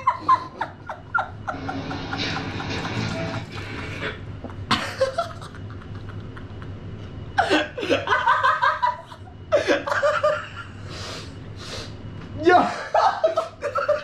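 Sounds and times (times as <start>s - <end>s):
young men laughing: 0.0s - 10.8s, 12.5s - 14.0s.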